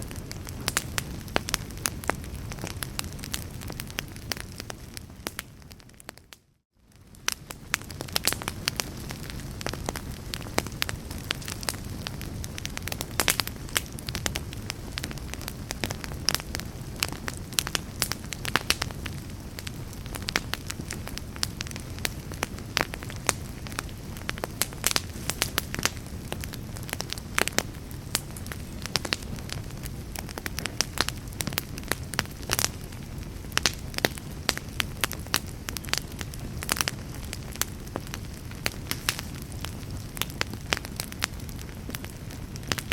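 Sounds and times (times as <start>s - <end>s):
flames rushing: 0.0s - 6.1s, 7.0s - 42.9s
fire crackling and popping: 0.0s - 42.9s.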